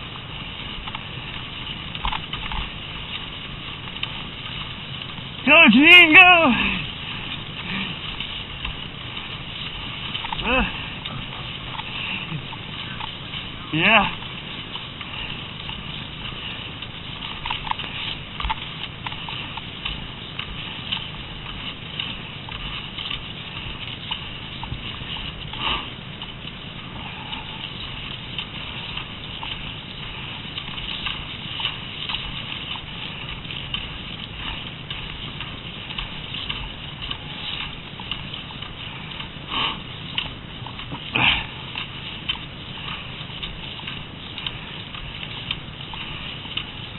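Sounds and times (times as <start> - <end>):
ski poles clicking and crunching: 0.0 - 46.9
skis gliding on snow: 0.0 - 46.9.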